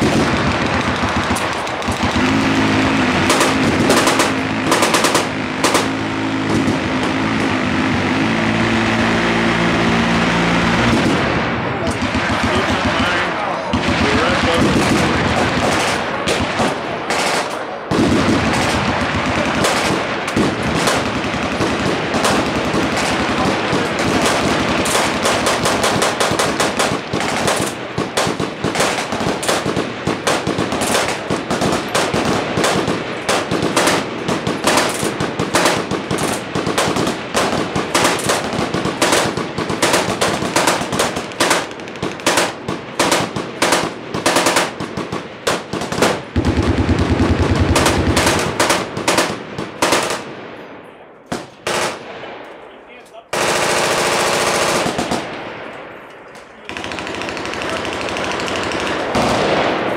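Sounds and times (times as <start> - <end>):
machine guns firing: 0.0 - 50.6, 51.2 - 52.3, 53.3 - 59.9.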